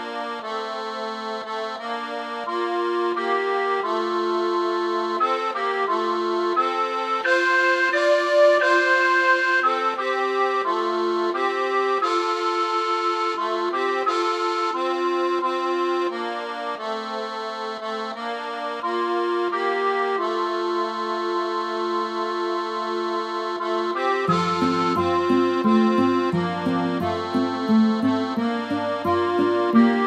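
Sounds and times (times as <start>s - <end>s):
instrumental background music: 0.0s - 30.0s.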